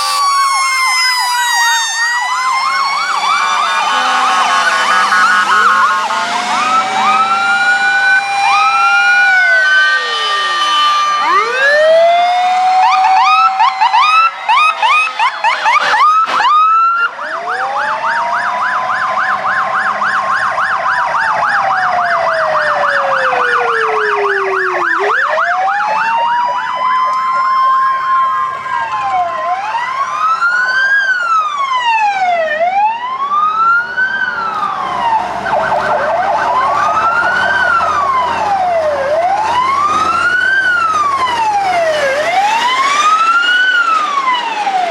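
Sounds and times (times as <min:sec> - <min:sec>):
fast siren yelp: 0:00.0 - 0:44.9
fire truck sirens wailing: 0:00.0 - 0:44.9.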